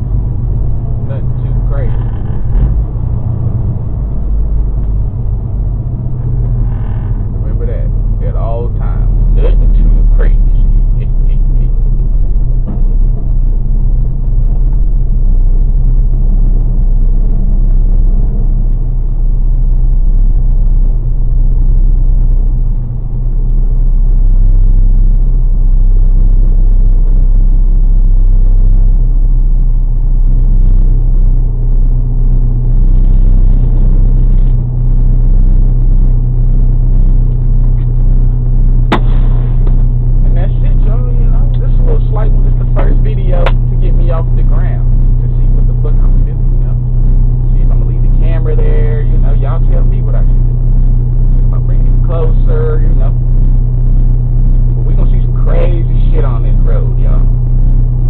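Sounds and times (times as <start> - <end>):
vehicle engine rumble: 0.0 - 58.0.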